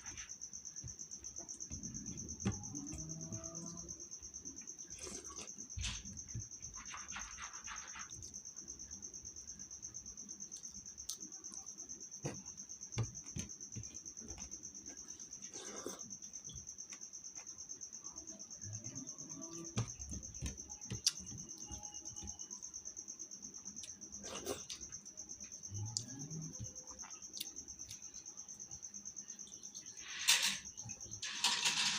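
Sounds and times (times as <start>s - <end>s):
cricket trilling: 0.0s - 31.9s.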